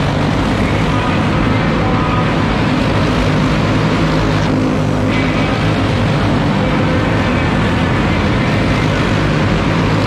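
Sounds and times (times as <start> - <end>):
go-kart engines droning: 0.0 - 10.0.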